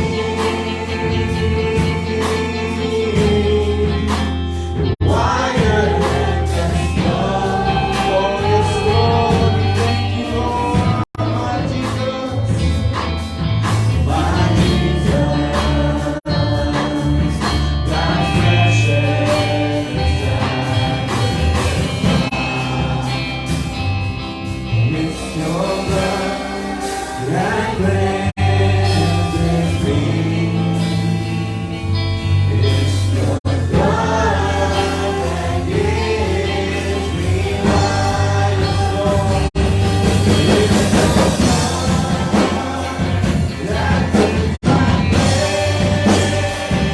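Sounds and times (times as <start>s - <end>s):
gospel band with bass: 0.0s - 46.9s
voices singing worship song: 0.0s - 46.9s.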